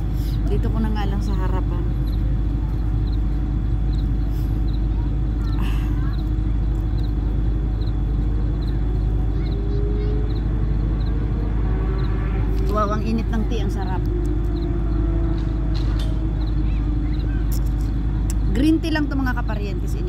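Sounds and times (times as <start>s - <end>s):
low outdoor background rumble: 0.0s - 20.0s.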